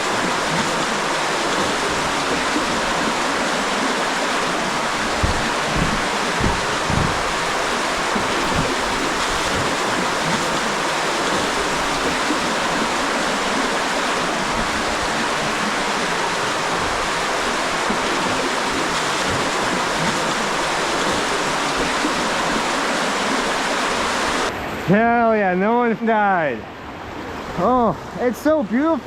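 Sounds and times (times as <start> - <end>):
water rushing through cave: 0.0 - 25.5.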